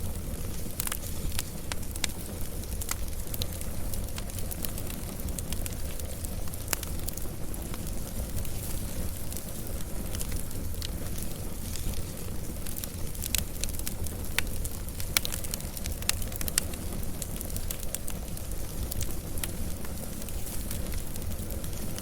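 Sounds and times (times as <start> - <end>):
fire cracks and pops: 0.0 - 22.0
wood fire rumbling: 0.0 - 22.0.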